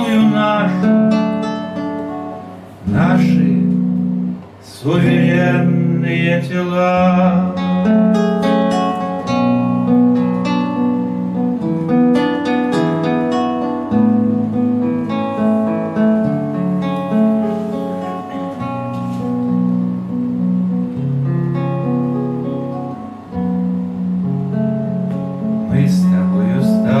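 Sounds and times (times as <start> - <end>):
fingerpicked acoustic guitar: 0.0 - 27.0.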